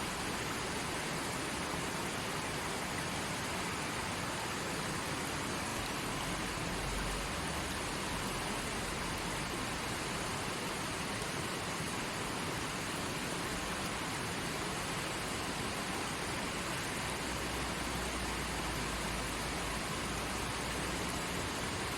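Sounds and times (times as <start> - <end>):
stream flowing: 0.0 - 21.9.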